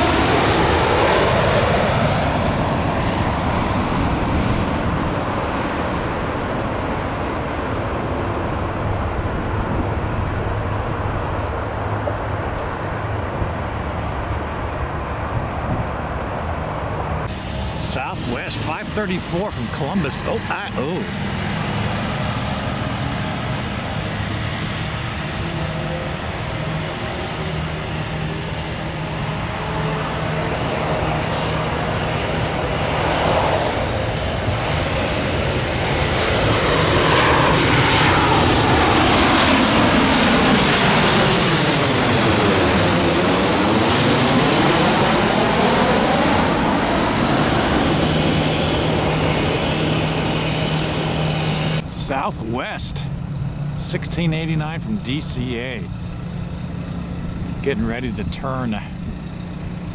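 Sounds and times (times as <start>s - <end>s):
jet passing overhead: 0.0s - 59.9s.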